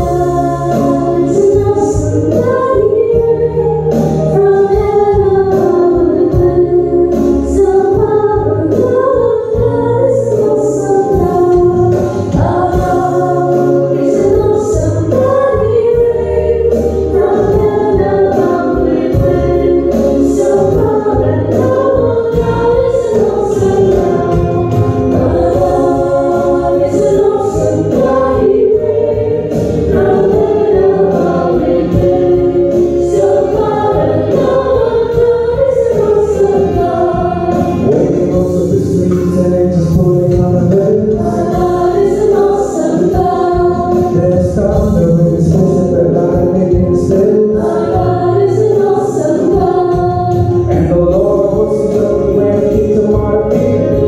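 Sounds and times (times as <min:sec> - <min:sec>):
church choir singing: 0:00.0 - 0:54.0
electronic keyboard accompaniment: 0:00.0 - 0:54.0.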